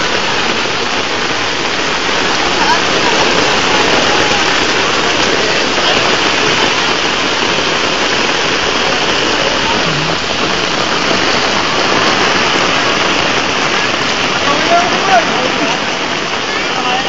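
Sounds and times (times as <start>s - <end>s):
floodwater river rushing: 0.0s - 17.0s.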